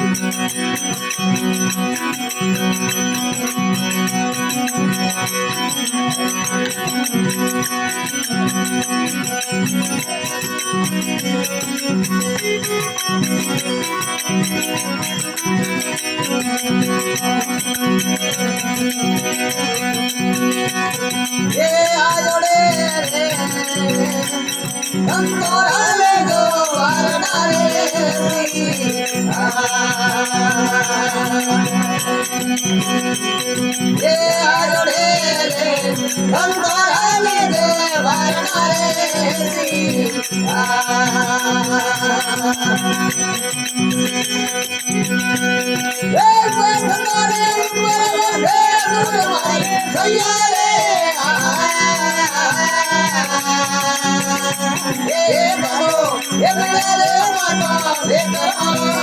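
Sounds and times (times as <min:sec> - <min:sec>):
rattling hand percussion: 0:00.0 - 0:59.0.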